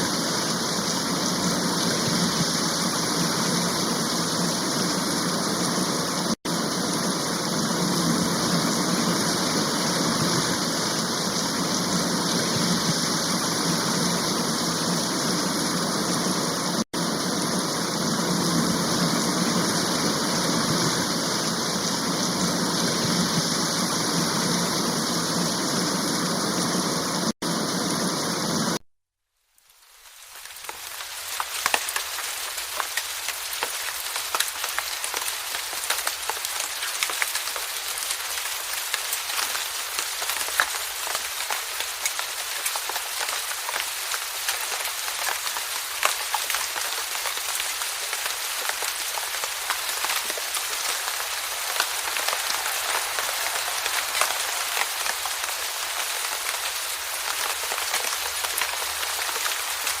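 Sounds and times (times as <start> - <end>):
steady rainfall: 0.0 - 28.8, 29.5 - 60.0
rain drops ticking: 0.1 - 28.8, 29.5 - 60.0.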